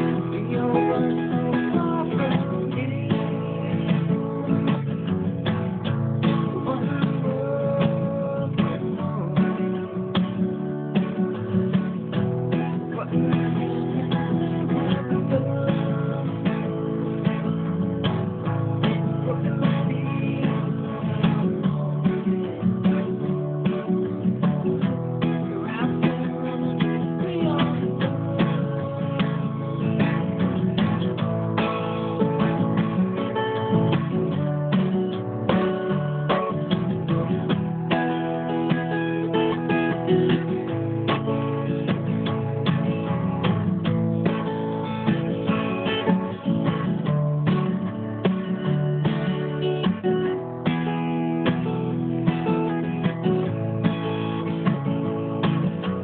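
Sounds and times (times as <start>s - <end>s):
acoustic guitar strumming and picking: 0.0s - 56.0s.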